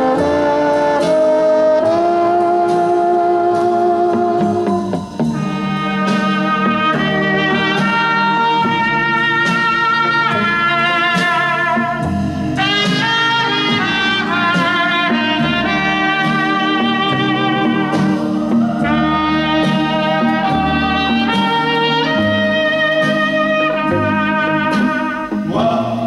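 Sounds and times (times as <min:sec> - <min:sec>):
music over loudspeakers: 0:00.0 - 0:26.0.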